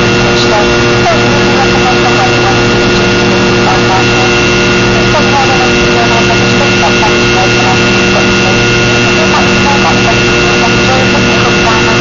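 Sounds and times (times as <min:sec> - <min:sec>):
engine whining tones: 0:00.0 - 0:12.0
jet engines rushing: 0:00.0 - 0:12.0.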